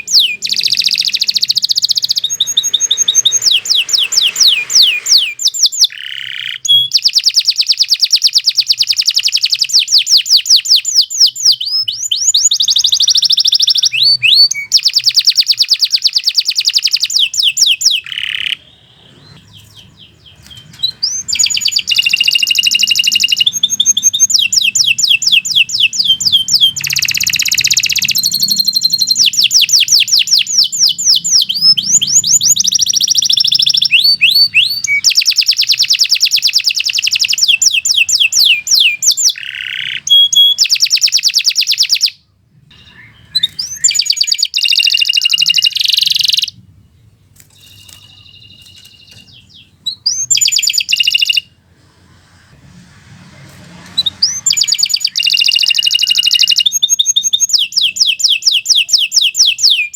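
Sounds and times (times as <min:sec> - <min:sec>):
canary singing trills: 0:00.0 - 0:46.7, 0:47.4 - 0:51.6, 0:53.9 - 0:59.9.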